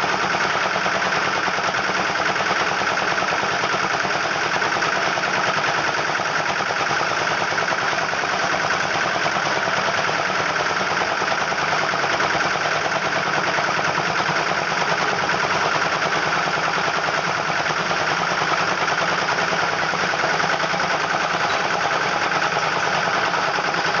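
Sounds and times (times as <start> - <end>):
diesel engine clattering: 0.0 - 24.0.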